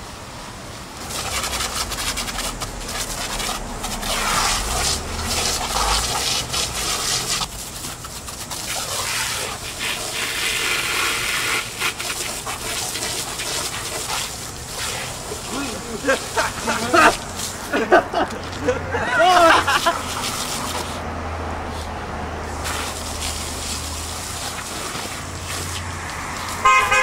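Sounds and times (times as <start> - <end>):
hose nozzle spraying water: 0.9 - 27.0.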